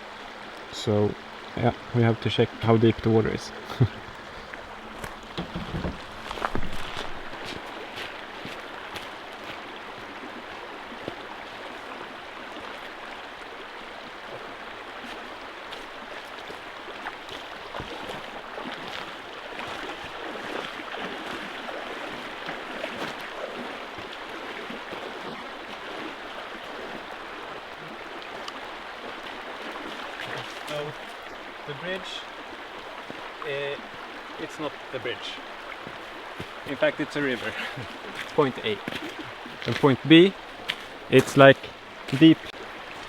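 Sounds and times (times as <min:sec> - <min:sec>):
river water rushing: 0:00.0 - 0:43.0
small water splashes: 0:03.5 - 0:43.0.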